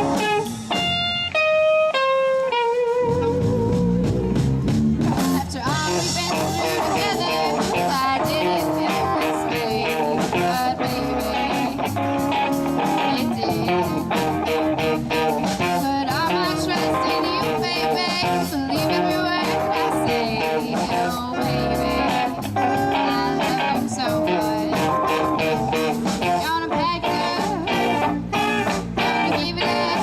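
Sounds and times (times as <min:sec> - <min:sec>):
blues-rock band playing: 0:00.0 - 0:30.0
electric guitar lead: 0:00.0 - 0:30.0.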